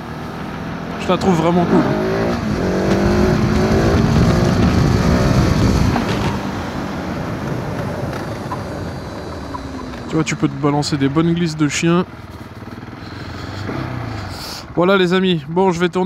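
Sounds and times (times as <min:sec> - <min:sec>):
motorcycle engine under throttle: 0:00.0 - 0:14.6
wind and tyre noise: 0:00.0 - 0:16.0.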